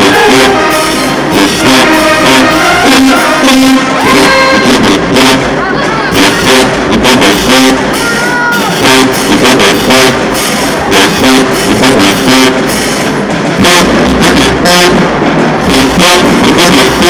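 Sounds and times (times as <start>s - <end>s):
marching band playing: 0.0s - 17.0s
sousaphones low brass line: 0.0s - 17.0s.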